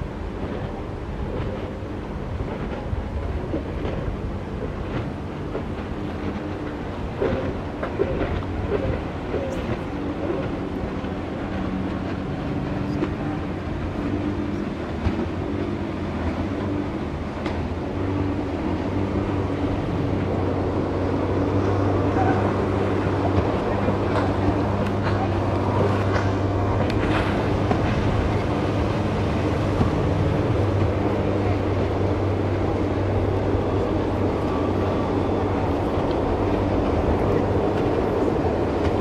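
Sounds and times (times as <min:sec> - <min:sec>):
jet ski engine droning: 0:00.0 - 0:39.0.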